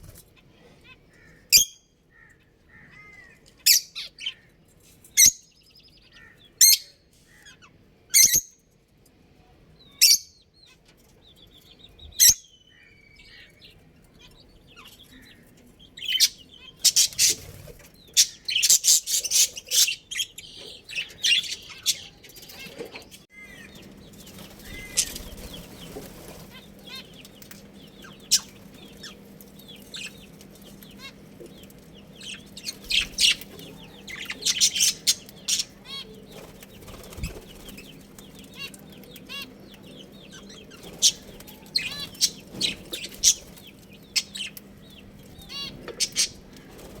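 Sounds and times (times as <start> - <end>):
budgerigars chirping: 0.8 - 4.5, 5.2 - 8.6, 11.4 - 47.0.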